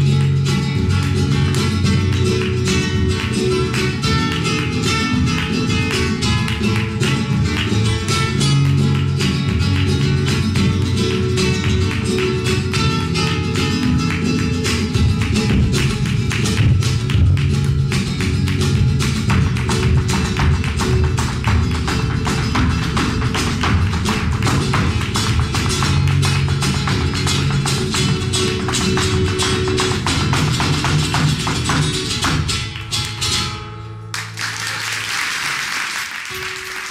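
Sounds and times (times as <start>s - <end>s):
sharp percussive taps: 0.0s - 33.5s
flamenco acoustic guitar: 0.0s - 36.9s.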